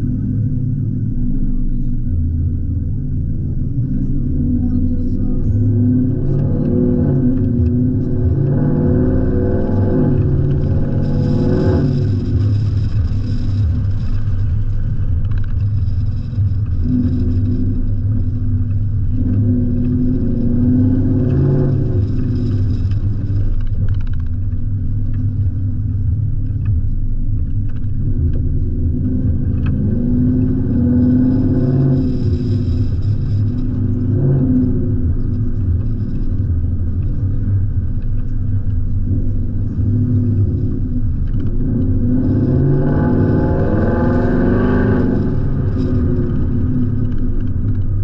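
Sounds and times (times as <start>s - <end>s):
car engine and exhaust accelerating: 0.0s - 48.0s.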